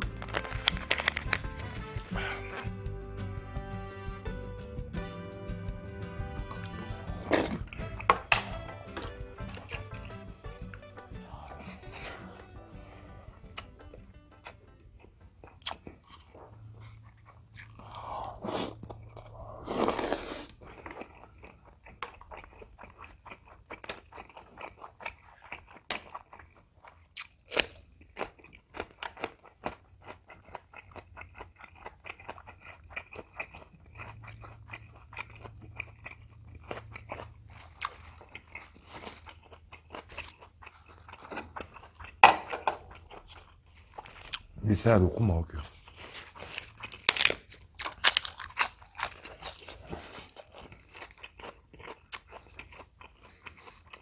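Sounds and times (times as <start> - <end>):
person chewing and crunching: 0.0 - 3.0, 6.1 - 54.0.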